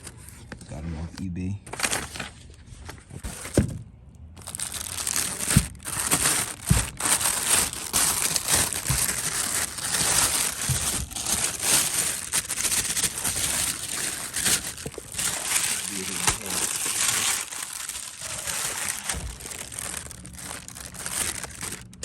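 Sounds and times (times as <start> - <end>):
plastic packaging crinkling: 1.7 - 2.6, 4.4 - 22.0.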